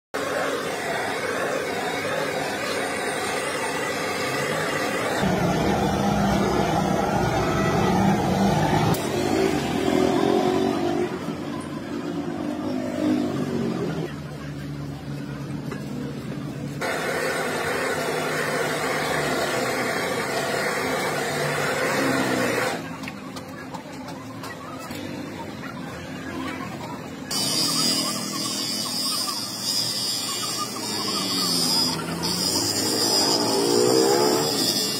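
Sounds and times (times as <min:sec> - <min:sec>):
vehicle engines running: 0:00.6 - 0:34.9.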